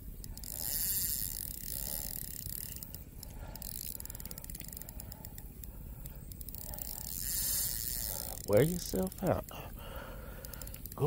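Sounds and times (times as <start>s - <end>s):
fishing reel drag clicking: 0.0s - 11.0s.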